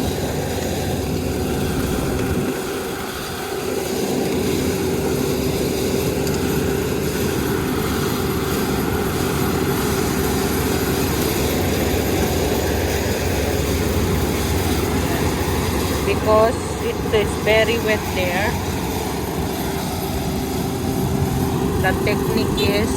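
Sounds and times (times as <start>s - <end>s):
combine harvester engine and machinery: 0.0s - 22.9s
steady whine: 0.0s - 22.9s.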